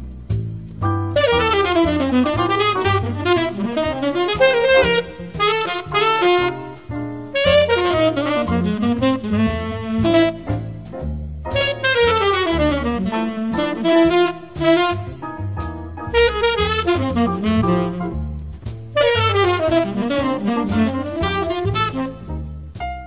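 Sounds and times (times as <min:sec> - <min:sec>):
jazz backing with bass line: 0:00.0 - 0:23.0
tenor saxophone jazz solo: 0:00.1 - 0:23.0.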